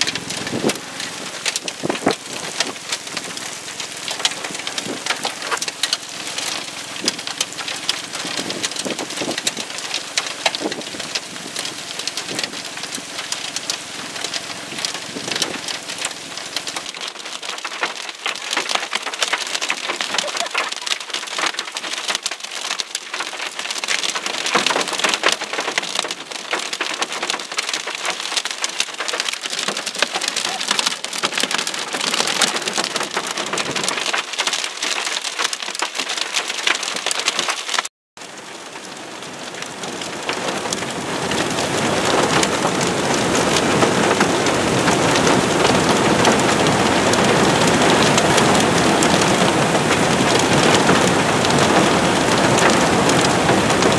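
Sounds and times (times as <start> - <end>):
hail clicking: 0.0 - 53.9
heavy rain rushing: 0.0 - 53.9.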